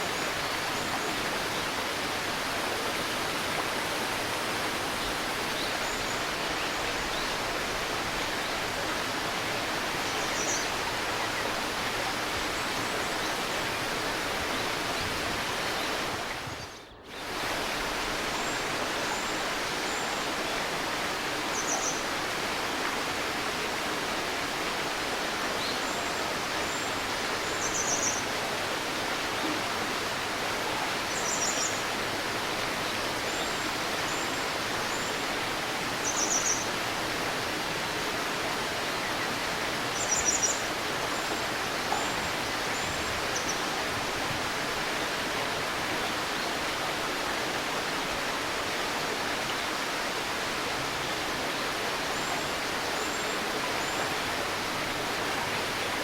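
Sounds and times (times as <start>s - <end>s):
babbling stream: 0.0s - 56.0s.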